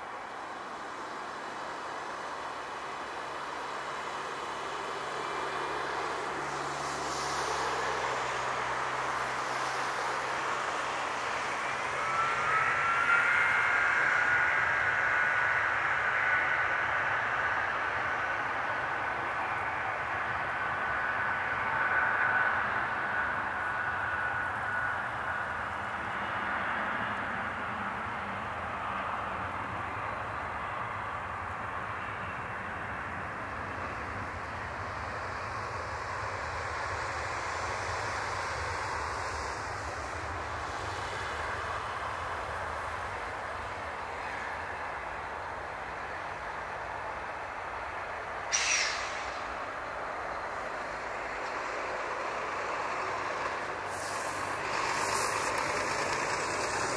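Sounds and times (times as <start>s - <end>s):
jet engines at takeoff thrust: 0.0s - 56.9s.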